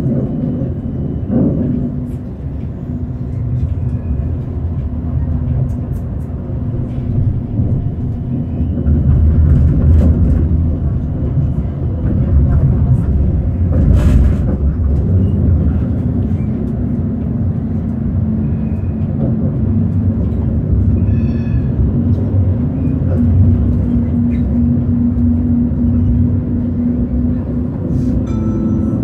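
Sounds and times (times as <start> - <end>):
tram rumbling on rails: 0.0 - 29.0.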